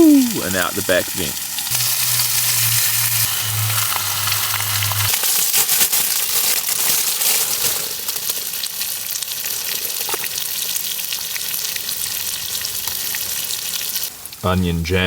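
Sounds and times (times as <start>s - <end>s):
burger patties sizzling in a pan: 0.0s - 14.2s.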